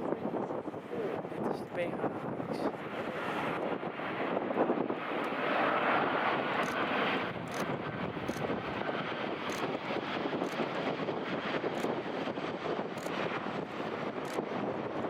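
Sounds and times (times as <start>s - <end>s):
jet engines rushing: 0.2s - 15.0s.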